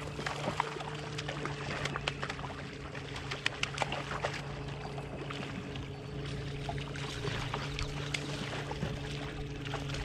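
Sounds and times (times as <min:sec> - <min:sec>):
boat motor humming: 0:00.0 - 0:10.0
fish splashing in water: 0:00.0 - 0:10.0.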